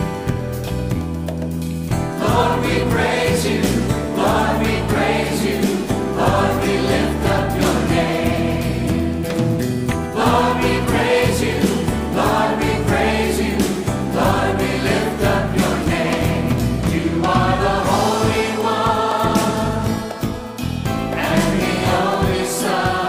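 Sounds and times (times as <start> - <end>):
choir singing: 2.2 - 9.4, 10.1 - 23.0.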